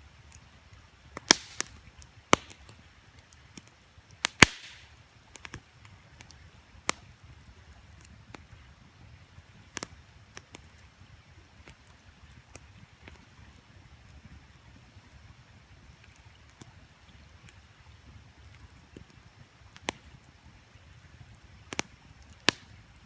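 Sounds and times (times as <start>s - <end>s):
campfire crackling and popping: 0.0s - 23.0s
faint steady background: 0.0s - 23.0s.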